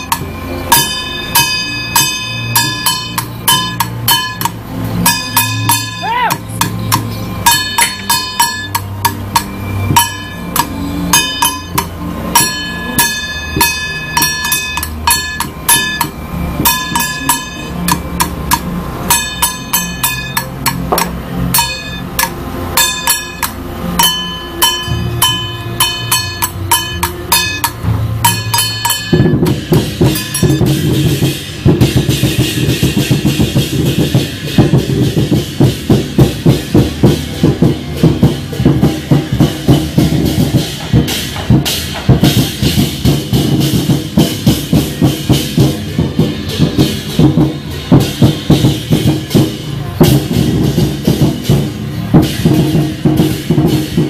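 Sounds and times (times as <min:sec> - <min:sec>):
cymbals struck in a beat: 0:00.0 - 0:54.0
deep fast drumming: 0:00.0 - 0:54.0
drum thumps: 0:00.0 - 0:54.0
metal gongs ringing: 0:00.0 - 0:54.0.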